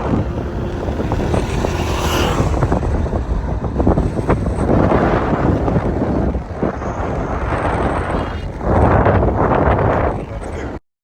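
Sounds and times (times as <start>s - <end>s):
vehicle in motion: 0.0s - 10.8s
wind buffeting microphone: 0.0s - 10.8s.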